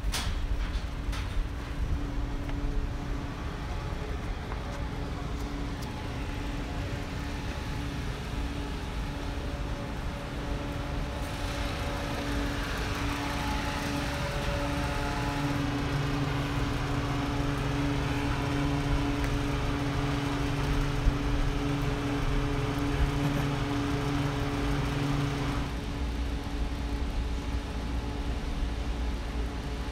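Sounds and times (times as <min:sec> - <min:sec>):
ventilation machinery humming: 0:00.0 - 0:29.9.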